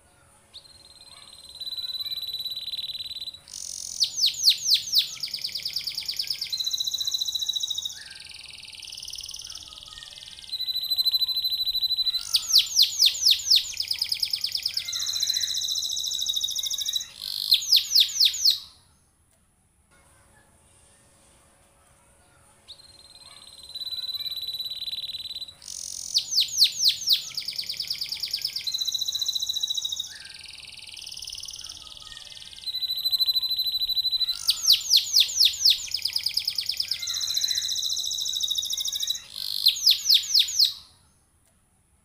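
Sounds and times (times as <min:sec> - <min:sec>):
canary singing: 0:00.0 - 0:19.0, 0:22.7 - 0:41.2.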